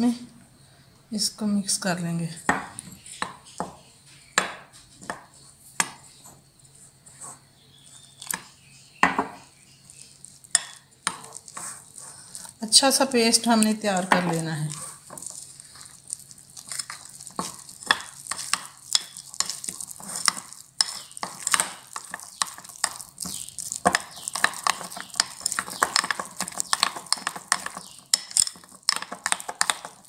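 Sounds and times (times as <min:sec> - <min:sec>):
metal spoon stirring batter: 0:02.5 - 0:30.0.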